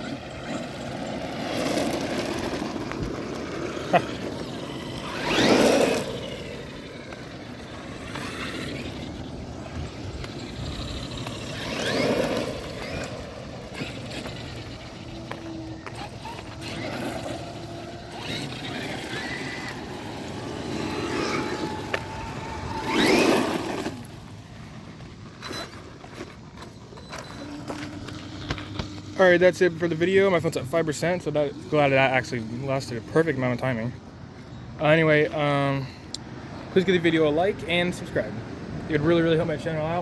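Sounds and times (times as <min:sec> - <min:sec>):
electric motor whining up: 0:00.0 - 0:33.5.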